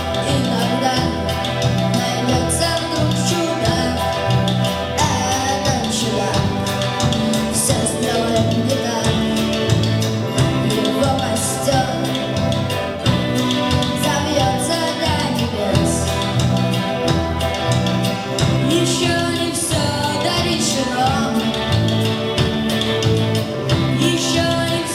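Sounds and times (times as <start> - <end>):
person singing: 0.0 - 17.5, 18.2 - 24.9
band playing with drums and bass: 0.0 - 24.9.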